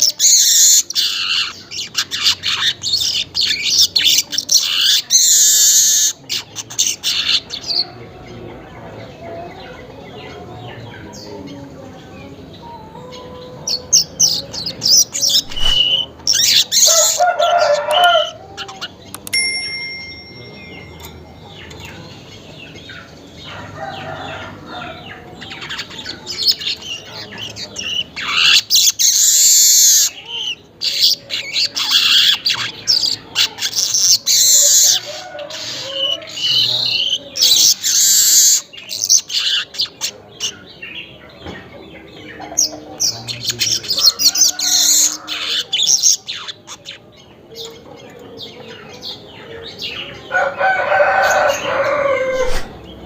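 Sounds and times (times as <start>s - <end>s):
bird chattering song: 0.0s - 24.1s, 24.7s - 50.3s.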